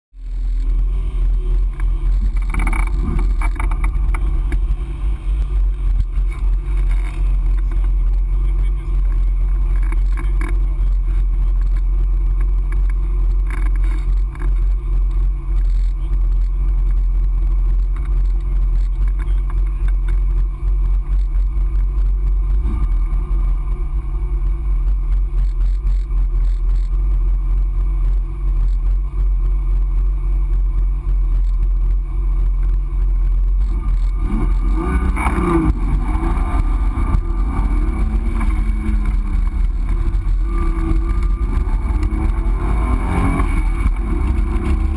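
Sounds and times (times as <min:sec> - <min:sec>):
car engine running and revving: 0:00.1 - 0:44.9.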